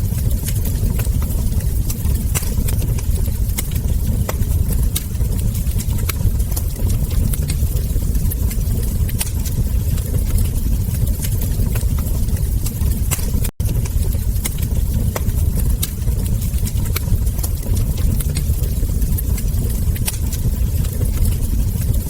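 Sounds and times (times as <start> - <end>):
low rumble: 0.0 - 22.0
wood fire crackling: 0.0 - 22.0.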